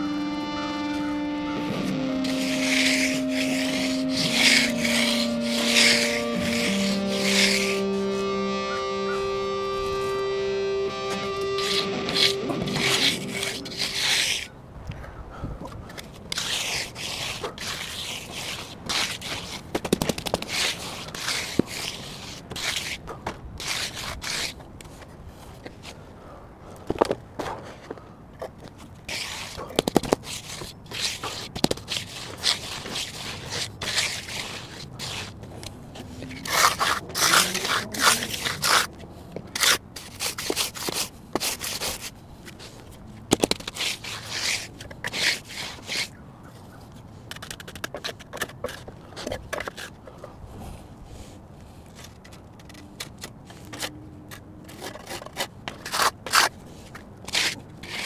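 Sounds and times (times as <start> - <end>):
hand float scraping concrete: 1.0 - 9.6, 10.2 - 14.6, 15.9 - 25.8, 28.4 - 46.2, 47.2 - 50.3, 51.2 - 58.0.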